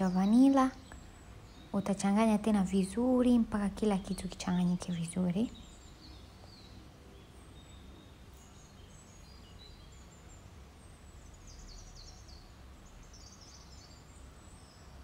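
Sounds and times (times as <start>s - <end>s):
faint bird chirps: 0.0s - 15.0s
low background hum: 0.0s - 15.0s.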